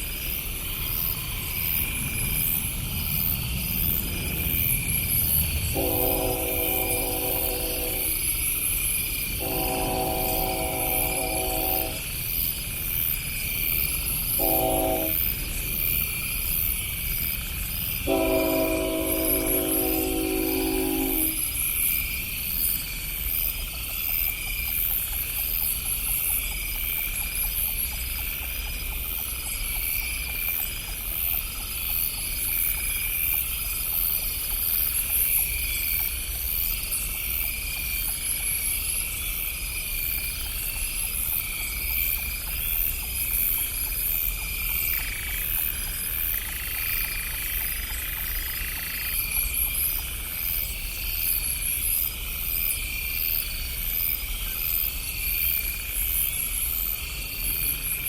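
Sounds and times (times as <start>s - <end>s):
insects trilling: 0.0s - 58.0s
frogs calling: 0.2s - 58.0s.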